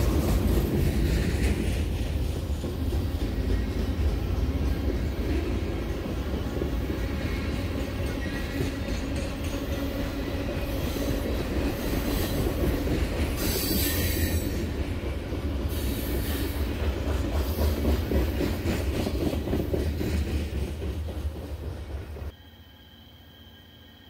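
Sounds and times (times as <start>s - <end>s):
train rumbling on rails: 0.0s - 22.4s.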